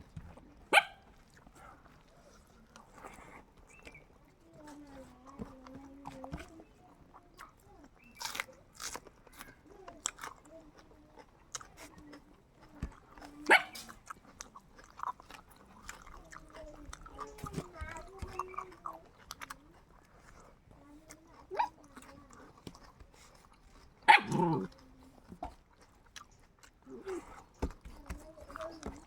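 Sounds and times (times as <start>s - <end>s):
wet chewing with crisp cracks: 0.0s - 29.0s.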